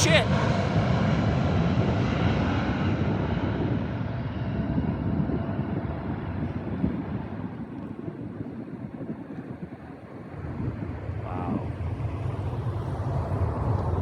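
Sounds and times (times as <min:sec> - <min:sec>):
distant jet airliner rumble: 0:00.0 - 0:14.0.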